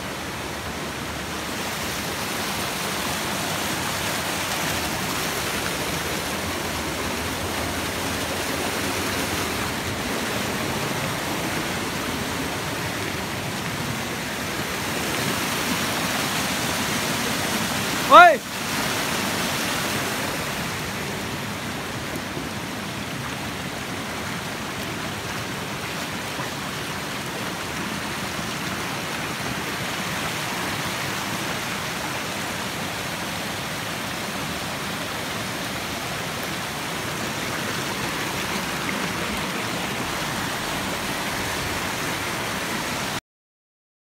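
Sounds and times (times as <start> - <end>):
waterfall rushing: 0.0 - 43.2.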